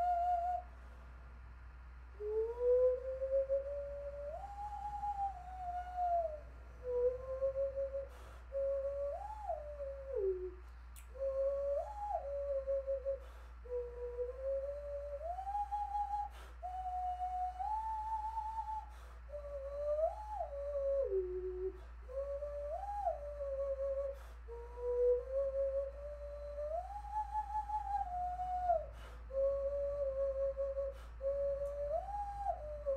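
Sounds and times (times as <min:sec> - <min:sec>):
hand whistle melody: 0:00.0 - 0:00.7, 0:02.2 - 0:32.9.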